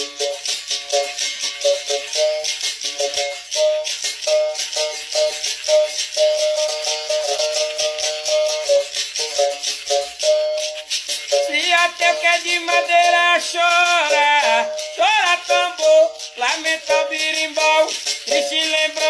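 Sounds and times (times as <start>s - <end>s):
caxixi rattle shaken: 0.0s - 19.0s.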